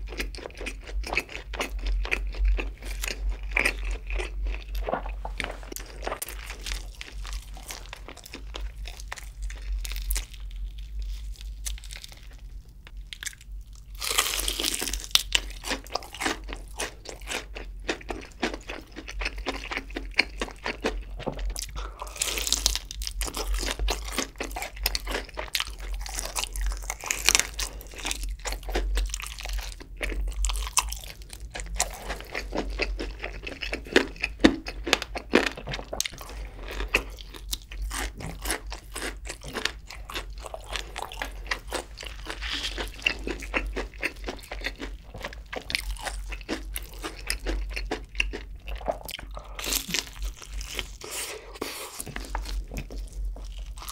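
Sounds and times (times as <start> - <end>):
wet chewing: 0.0 - 13.4, 14.0 - 53.9
crispy crust crunching: 0.1 - 53.9.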